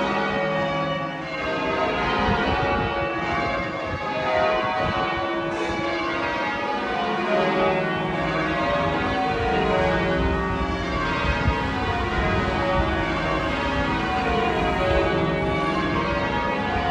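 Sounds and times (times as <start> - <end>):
church bells pealing: 0.0 - 16.9.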